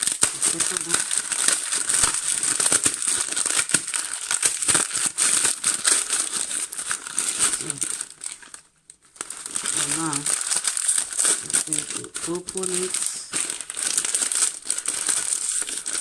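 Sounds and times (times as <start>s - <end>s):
dry noodles crushed: 0.0s - 16.0s
plastic wrapper crinkling: 0.0s - 16.0s.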